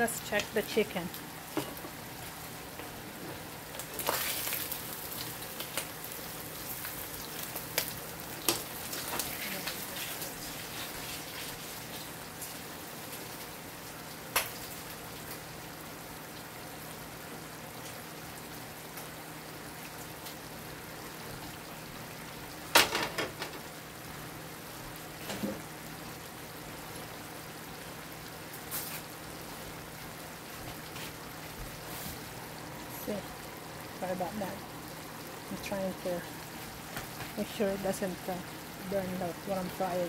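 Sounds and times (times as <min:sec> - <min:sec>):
food sizzling: 0:00.0 - 0:40.0.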